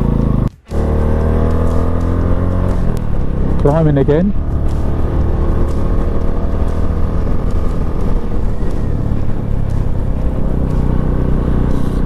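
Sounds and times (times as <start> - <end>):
low rumble: 0.0 - 12.0
motorcycle engine under load: 0.0 - 12.0.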